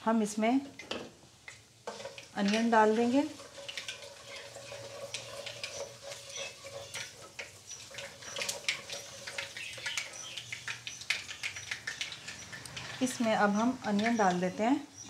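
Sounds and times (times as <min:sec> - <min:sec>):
seeds sizzling in hot oil: 0:01.1 - 0:15.0
spatula stirring in wok: 0:01.5 - 0:14.6.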